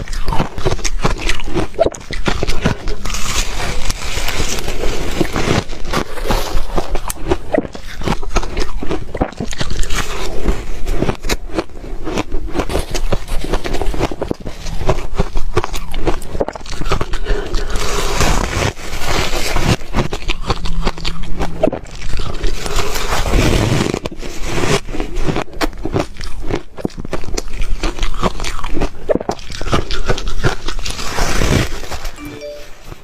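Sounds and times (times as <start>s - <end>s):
ice being chewed: 0.0s - 32.6s.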